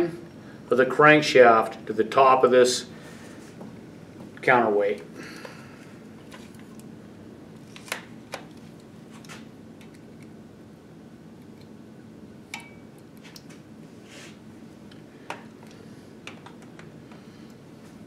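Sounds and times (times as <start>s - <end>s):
workshop room noise: 0.0s - 10.6s, 12.3s - 18.0s.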